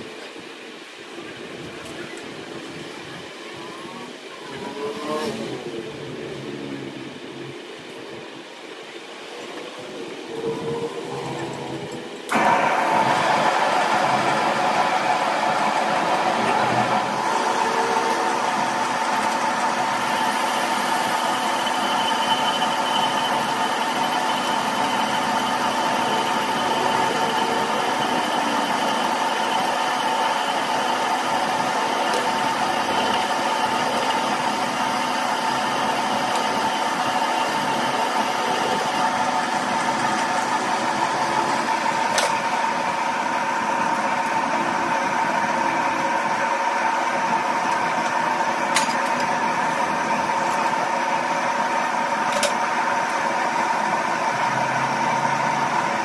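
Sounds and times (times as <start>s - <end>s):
machine humming: 10.0s - 56.0s.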